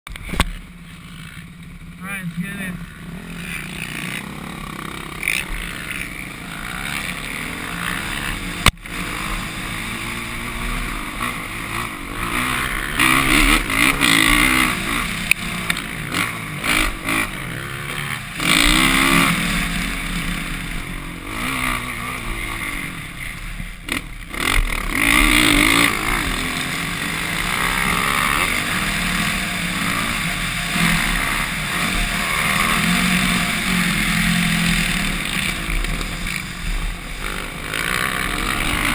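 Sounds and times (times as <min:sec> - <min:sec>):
dirt bike engines revving: 0:00.1 - 0:38.9.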